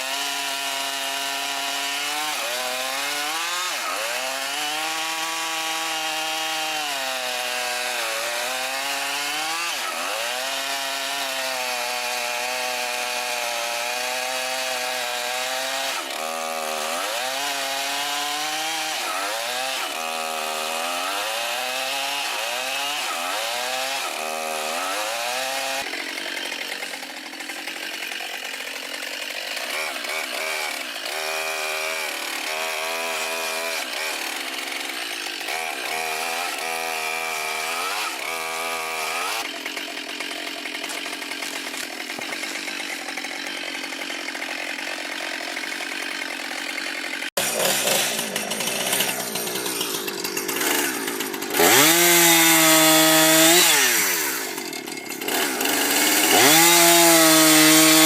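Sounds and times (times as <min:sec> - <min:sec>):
chainsaw cutting tree trunk: 0:00.0 - 0:58.0.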